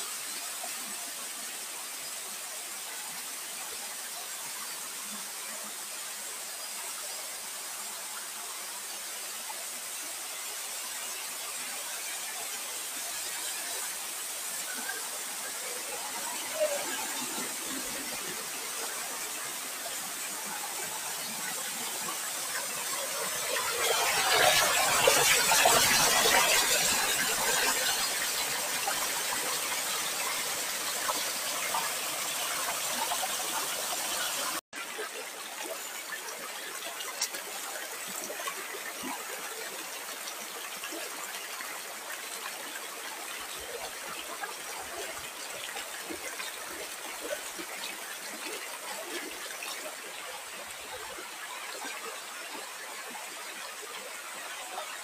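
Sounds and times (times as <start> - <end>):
waterfall onto rocks: 0.0 - 55.0.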